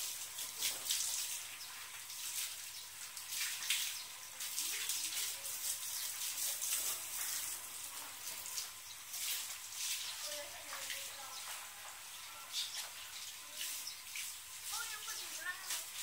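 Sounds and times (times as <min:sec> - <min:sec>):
hose spraying water on scooter: 0:00.0 - 0:16.0.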